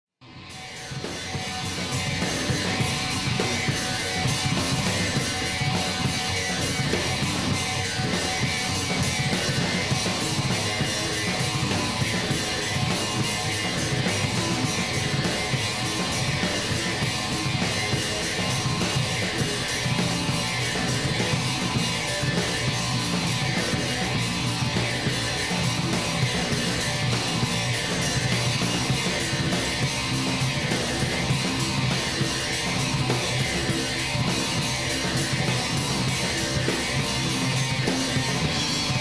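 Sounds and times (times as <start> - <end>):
rock music with guitar and drums: 0.2 - 39.0.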